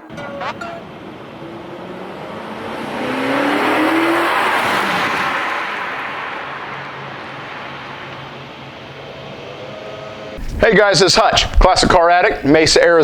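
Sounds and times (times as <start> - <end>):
car engine accelerating: 0.0 - 10.4
tyre and road noise: 0.0 - 12.9.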